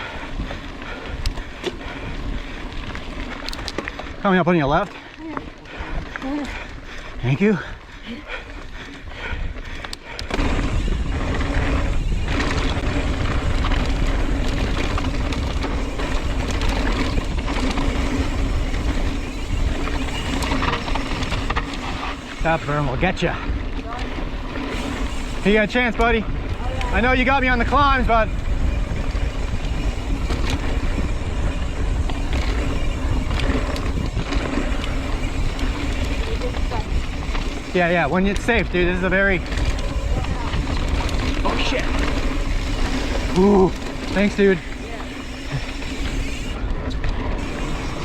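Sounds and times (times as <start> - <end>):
bike tyre and drivetrain noise: 0.0 - 48.0
wind rushing over microphone: 9.1 - 48.0.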